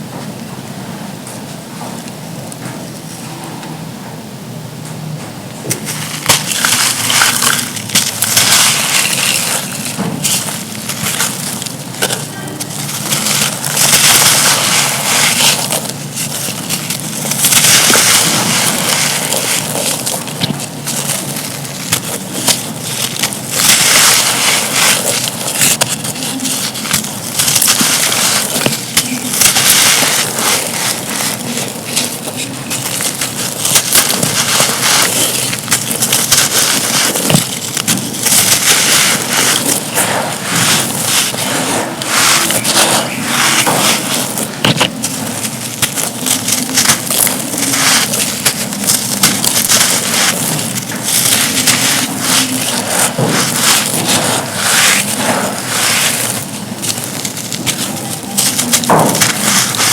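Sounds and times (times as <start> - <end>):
brittle cups crunching: 5.7 - 59.9.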